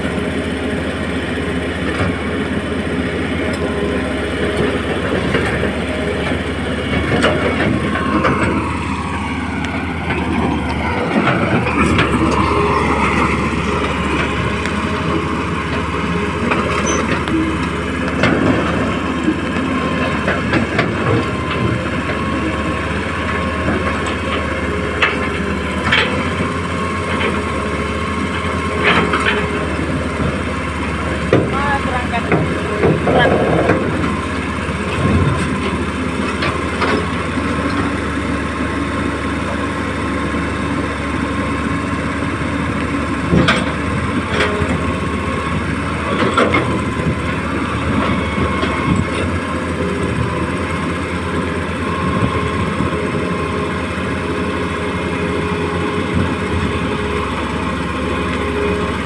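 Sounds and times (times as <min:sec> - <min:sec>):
excavator hydraulic whine: 0:00.0 - 0:59.0.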